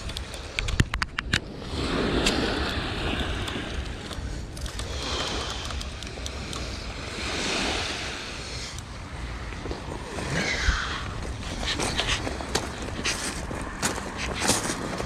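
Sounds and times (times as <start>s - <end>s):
surf washing on beach: 0.0s - 15.0s
wind on microphone: 0.0s - 15.0s.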